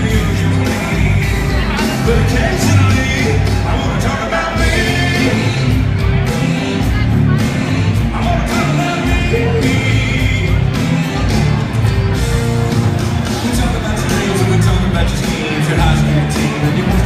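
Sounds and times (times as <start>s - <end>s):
dance music with singer: 0.0s - 17.0s
steady bass beat: 0.0s - 17.0s.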